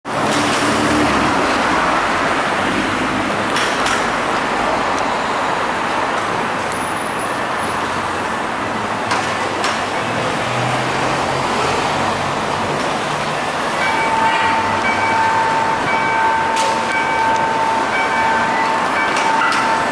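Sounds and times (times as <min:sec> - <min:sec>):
road and tyre noise: 0:00.0 - 0:19.9
cars driving past: 0:00.1 - 0:19.9.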